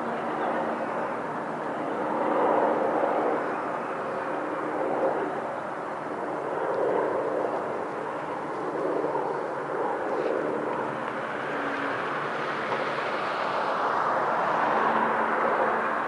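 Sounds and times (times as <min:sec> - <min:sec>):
helicopter rotor hum: 0:00.0 - 0:16.0.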